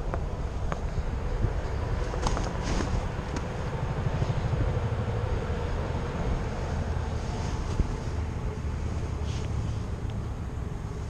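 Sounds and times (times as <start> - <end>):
faint engine hum: 0.0 - 11.0
wind buffeting microphone: 0.0 - 11.0.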